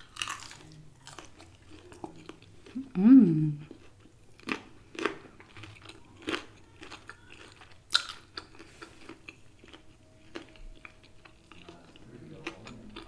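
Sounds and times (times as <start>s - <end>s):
crunchy chewing: 0.0s - 2.8s, 3.6s - 13.0s.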